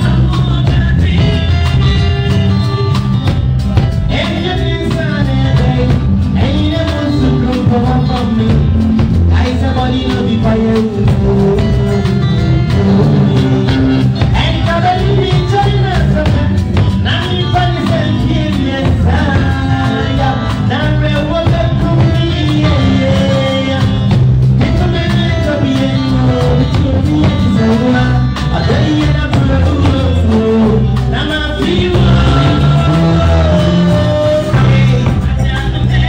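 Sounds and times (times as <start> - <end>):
person singing: 0.0 - 3.3, 4.0 - 36.0
live band playing dance music: 0.0 - 36.0.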